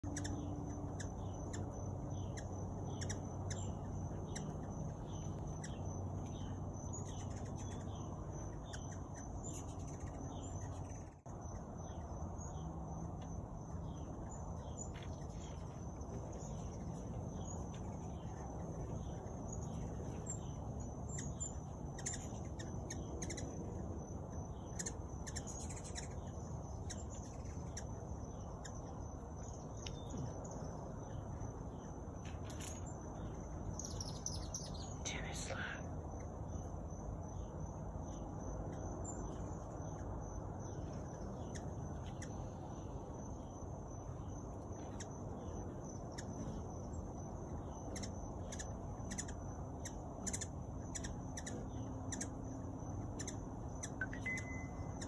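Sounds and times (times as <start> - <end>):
bird chirping: 0.0 - 55.0
insect drone: 0.0 - 55.0
low background hum: 0.0 - 55.0.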